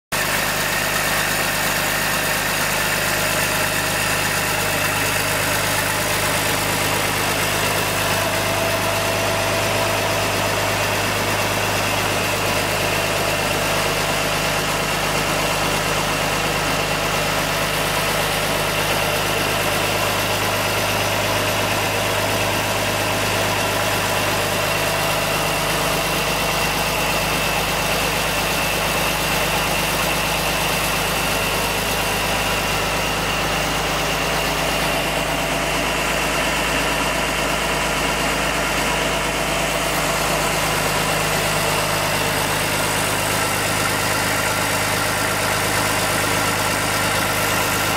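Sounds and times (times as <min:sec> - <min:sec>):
diesel tractor engine idling: 0:00.1 - 0:47.9.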